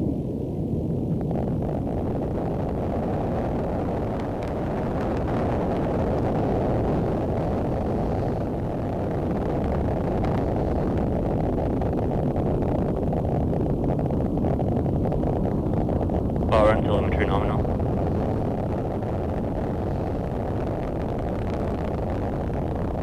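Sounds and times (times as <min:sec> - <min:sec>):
rocket engines rumbling: 0:00.0 - 0:23.0.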